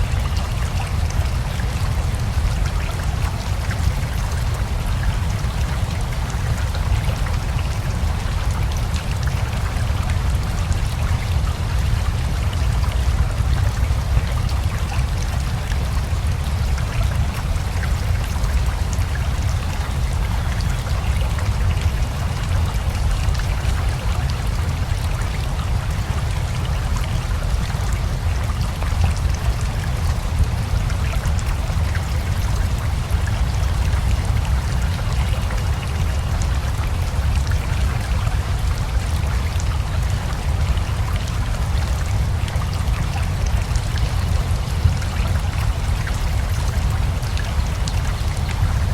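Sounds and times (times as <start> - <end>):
rain patter: 0.0 - 48.9
river water rushing: 0.0 - 48.9.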